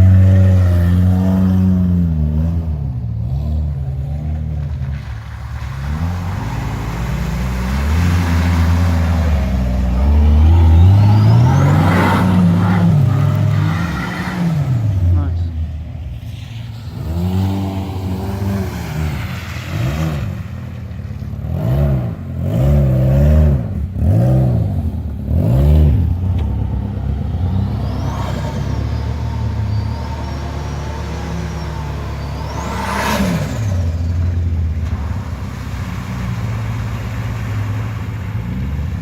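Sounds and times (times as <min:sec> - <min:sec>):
engine revving: 0:00.0 - 0:39.0.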